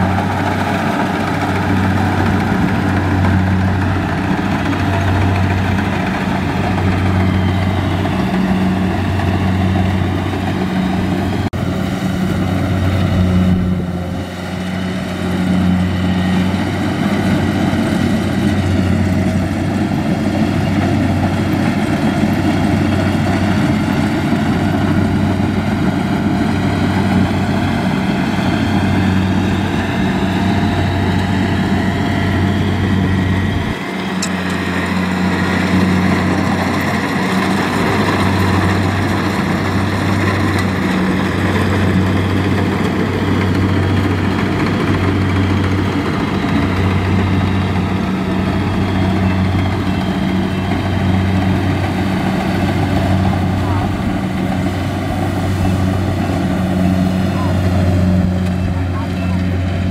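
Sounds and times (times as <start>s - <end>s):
combine harvester diesel engine running: 0.0s - 59.9s.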